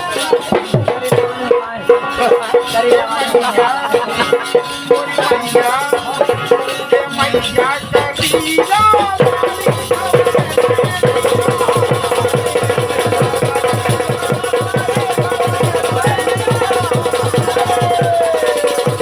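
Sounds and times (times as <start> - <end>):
fast steady beat: 0.0 - 19.0
bending melody line: 1.2 - 19.0.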